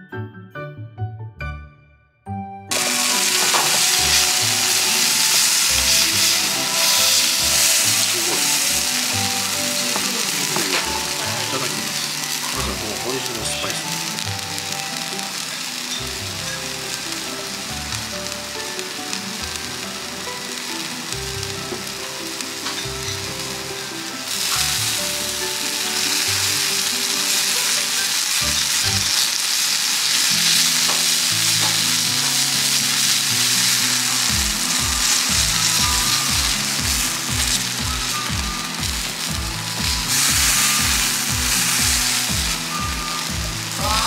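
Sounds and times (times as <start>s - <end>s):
quiet background music: 2.3s - 44.0s
steak sizzling: 2.7s - 44.0s.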